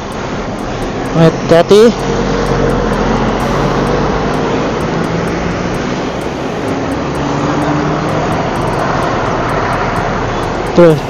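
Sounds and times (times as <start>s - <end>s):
heavy road traffic: 0.0s - 11.0s
motorbikes passing: 0.0s - 11.0s
truck engine: 0.0s - 11.0s.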